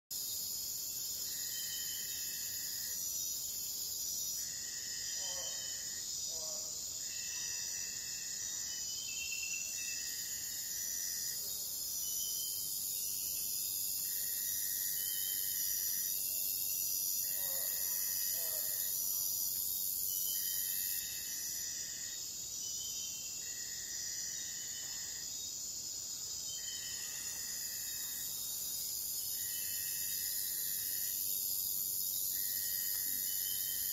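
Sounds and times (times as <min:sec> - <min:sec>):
insects high-pitched shrill: 0:00.2 - 0:33.9.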